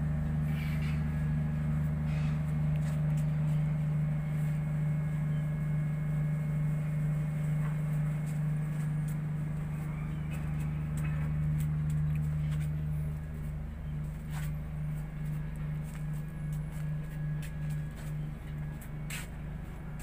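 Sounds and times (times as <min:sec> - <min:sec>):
ship machinery drone: 0:00.0 - 0:20.0.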